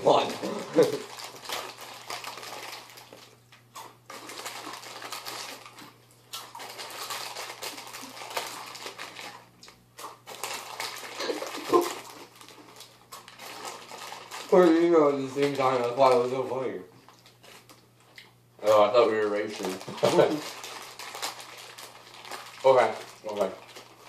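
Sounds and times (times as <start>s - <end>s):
chewing crunchy chips: 0.0s - 24.0s.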